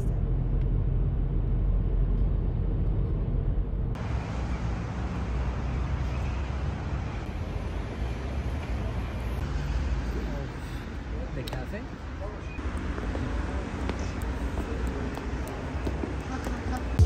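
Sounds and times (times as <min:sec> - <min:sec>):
vehicle and road rumble: 0:00.0 - 0:17.0.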